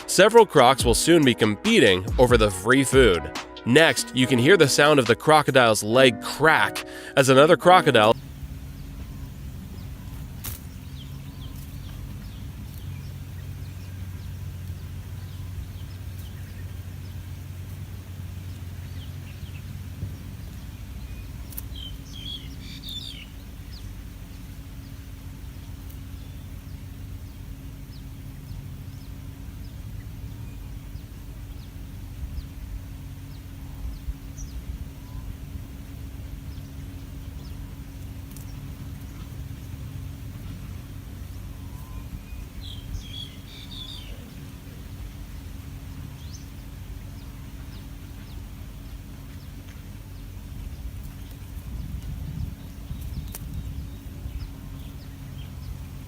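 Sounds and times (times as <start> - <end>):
low mechanical hum: 0.0 - 3.5, 7.6 - 56.0
birds chirping: 0.0 - 56.0.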